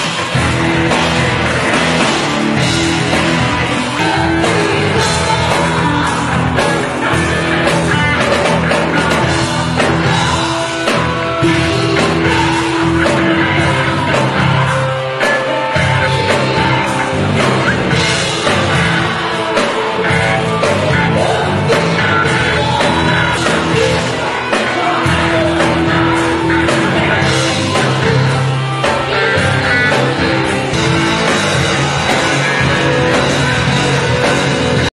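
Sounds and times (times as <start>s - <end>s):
drums: 0.0s - 34.9s
electric guitars: 0.0s - 34.9s
singing: 3.5s - 34.9s.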